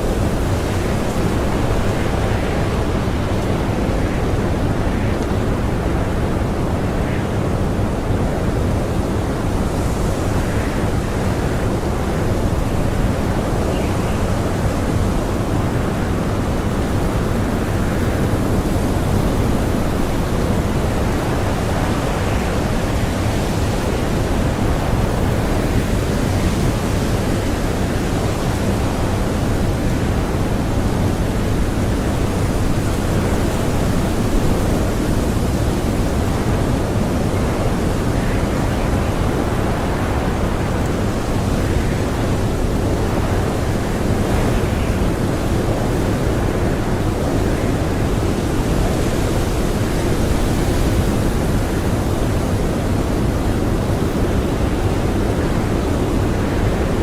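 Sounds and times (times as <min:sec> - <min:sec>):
blizzard wind howling: 0:00.0 - 0:57.0.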